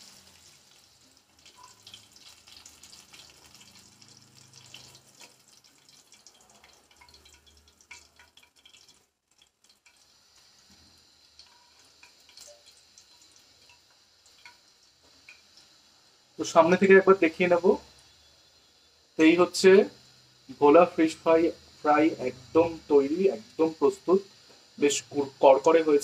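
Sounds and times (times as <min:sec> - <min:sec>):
fish frying in oil: 0:00.0 - 0:26.0.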